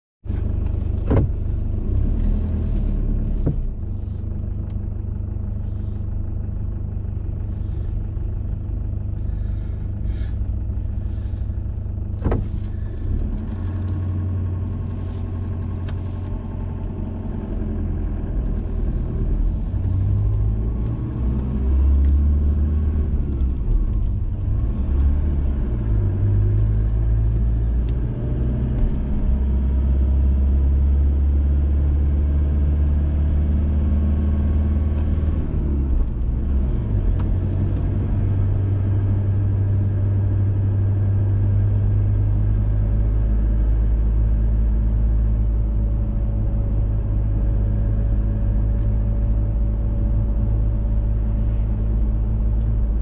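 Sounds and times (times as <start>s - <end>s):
car engine and road rumble: 0.2s - 53.0s.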